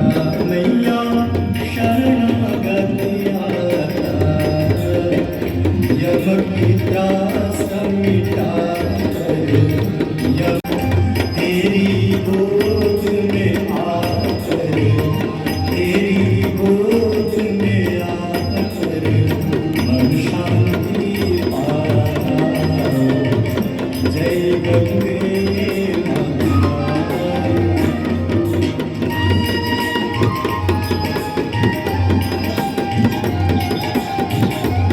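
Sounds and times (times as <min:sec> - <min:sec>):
rhythmic drum beat: 0:00.0 - 0:34.9.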